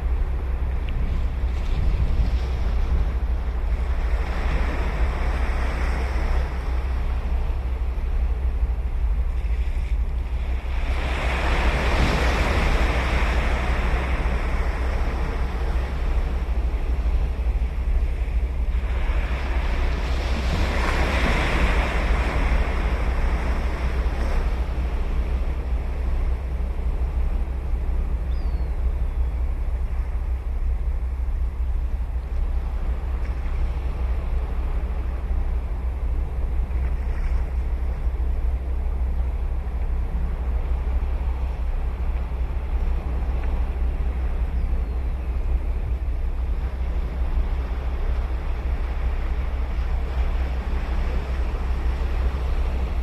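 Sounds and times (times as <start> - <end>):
ocean waves breaking: 0.0 - 53.0
wind rumble on microphone: 0.0 - 53.0.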